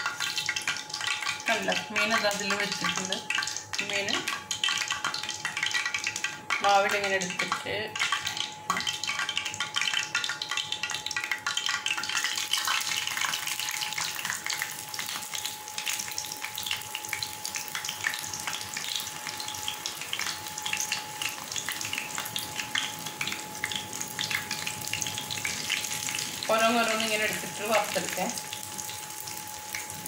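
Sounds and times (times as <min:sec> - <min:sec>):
hot oil sizzling and crackling: 0:00.0 - 0:30.0.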